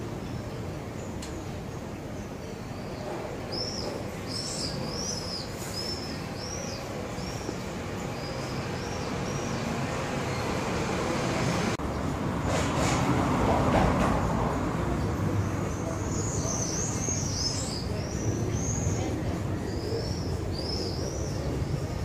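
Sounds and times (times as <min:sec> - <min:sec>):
small birds chirping: 0:00.0 - 0:12.0, 0:14.9 - 0:22.0.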